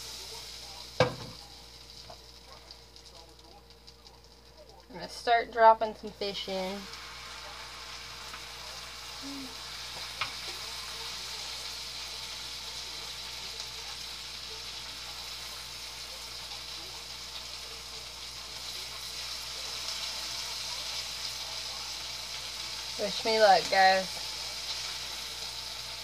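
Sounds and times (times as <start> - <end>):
fish frying in butter: 0.0 - 26.0.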